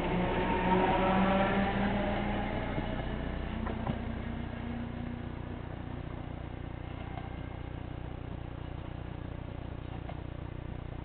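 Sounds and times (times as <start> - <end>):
train wheels rumbling on rails: 0.0 - 10.2
electric train motors humming: 0.0 - 11.0.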